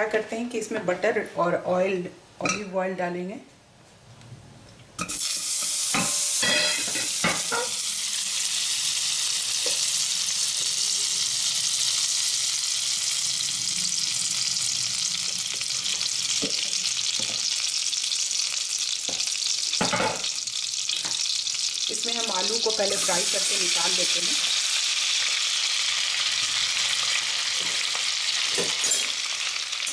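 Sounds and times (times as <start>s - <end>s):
butter and oil sizzling: 5.0s - 29.9s.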